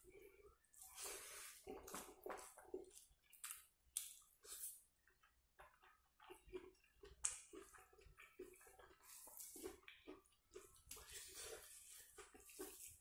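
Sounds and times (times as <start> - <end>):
wet chewing and mouth smacks: 1.6 - 13.0.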